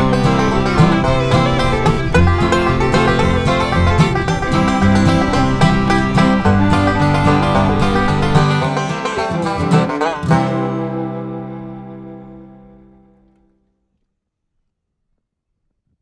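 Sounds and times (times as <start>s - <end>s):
upbeat banjo-like music: 0.0s - 13.2s.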